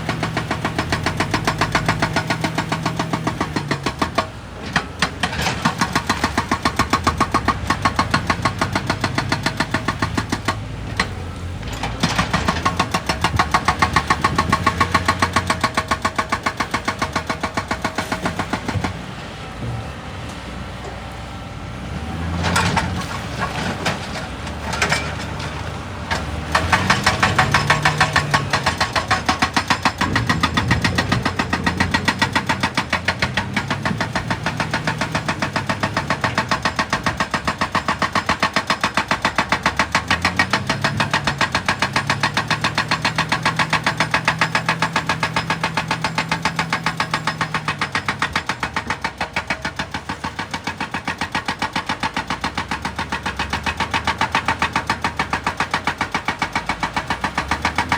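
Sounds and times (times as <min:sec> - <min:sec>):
rock breaker pounding: 0:00.0 - 0:21.1, 0:22.0 - 0:57.9
excavator diesel engine running: 0:00.0 - 0:57.9.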